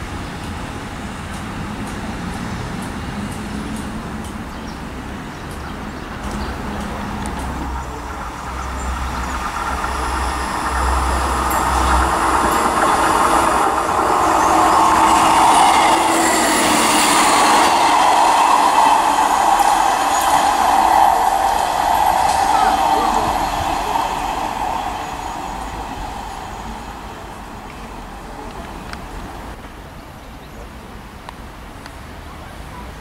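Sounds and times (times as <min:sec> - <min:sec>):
train wheels on rails: 0:00.0 - 0:30.0
diesel train approaching: 0:00.0 - 0:30.2.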